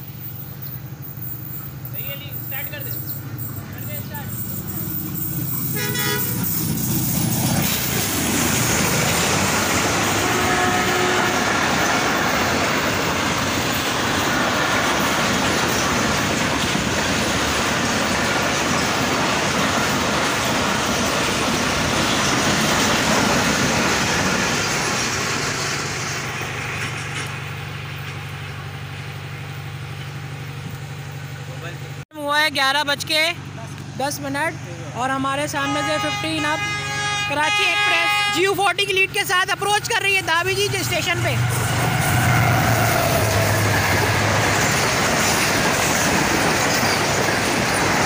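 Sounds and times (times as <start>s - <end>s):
train wheels rumbling and clattering: 0.0s - 32.0s, 32.9s - 48.0s.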